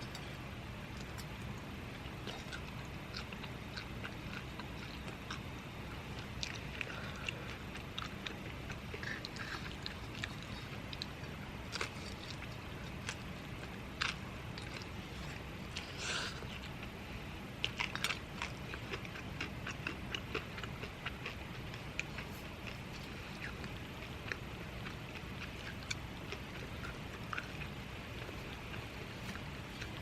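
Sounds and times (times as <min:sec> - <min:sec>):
chewing food crunches: 0:00.0 - 0:30.0
steady low hum: 0:00.0 - 0:30.0.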